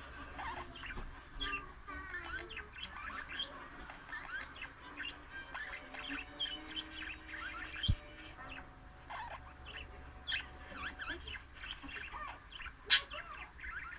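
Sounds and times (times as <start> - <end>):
budgerigar warbling and chirping: 0.1 - 13.9.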